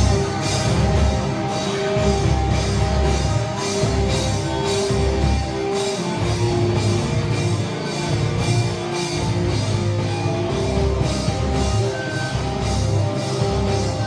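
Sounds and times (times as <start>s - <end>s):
heavy metal band playing: 0.0s - 14.0s.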